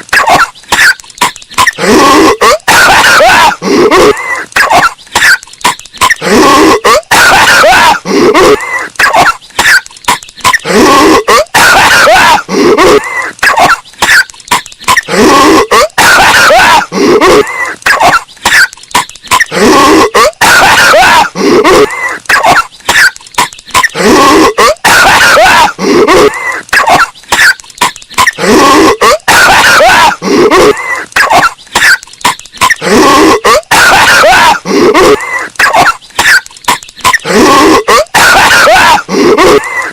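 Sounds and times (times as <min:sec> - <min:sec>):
distorted cartoon coughing: 0:00.0 - 0:39.9.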